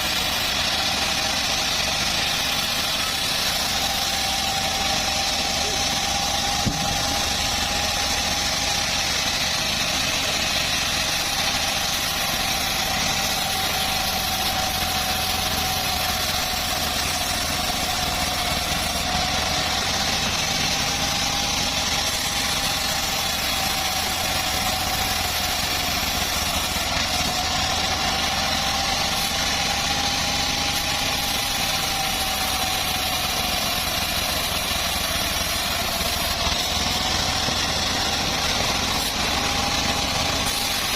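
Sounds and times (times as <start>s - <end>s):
bandsaw whine cutting wood: 0.0s - 40.9s.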